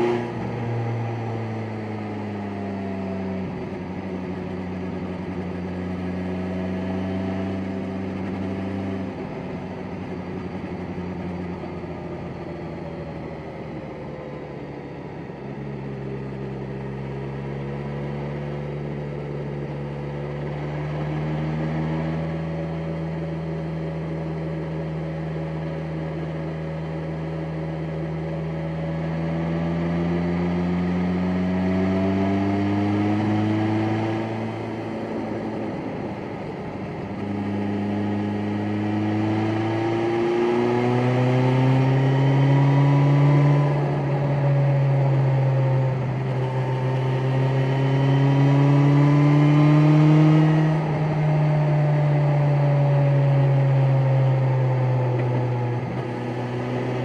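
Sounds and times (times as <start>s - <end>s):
motorcycle engine: 0.0s - 57.0s
wind and road noise: 0.0s - 57.0s.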